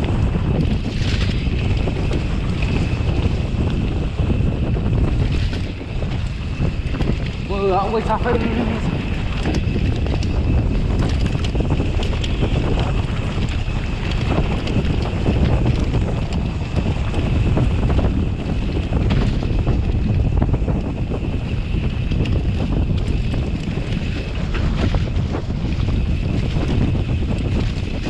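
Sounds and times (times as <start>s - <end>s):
bike clattering over rough trail: 0.0s - 28.0s
wind buffeting microphone: 0.0s - 28.0s.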